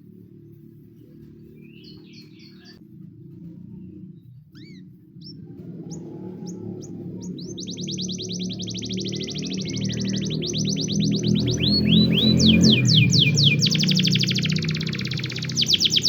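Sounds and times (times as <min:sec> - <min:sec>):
canary singing: 0:00.3 - 0:02.8, 0:04.5 - 0:16.0.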